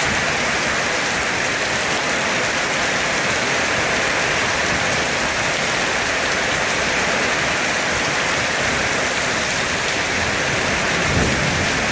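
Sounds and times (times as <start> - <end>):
heavy rain falling: 0.0 - 11.9.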